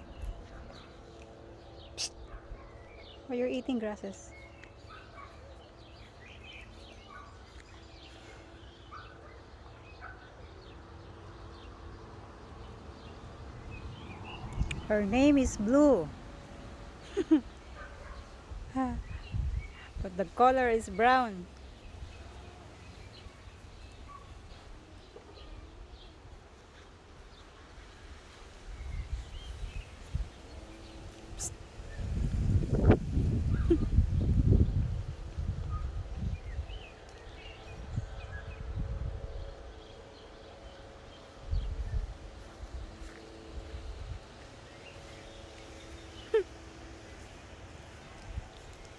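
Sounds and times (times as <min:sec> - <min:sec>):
low outdoor rumble: 0:00.0 - 0:05.3, 0:10.8 - 0:48.9
small birds chirping: 0:00.0 - 0:48.9.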